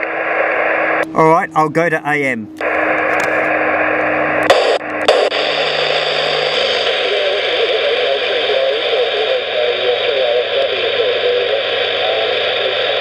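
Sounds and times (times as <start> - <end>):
radio speaker hissing: 0.0 - 13.0.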